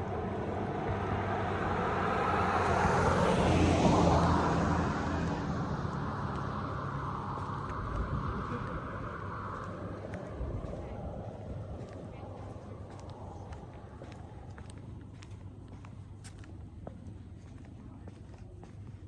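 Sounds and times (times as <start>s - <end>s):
car passing on street: 0.0s - 17.5s.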